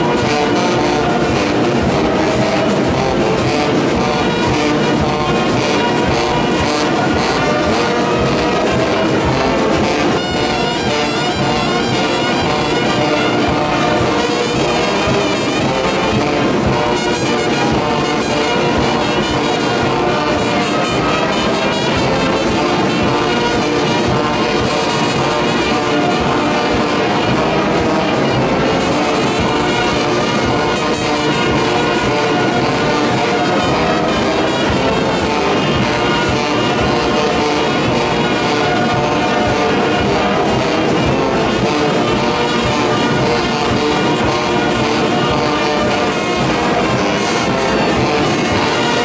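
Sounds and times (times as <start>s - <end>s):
brass band playing: 0.0s - 49.0s.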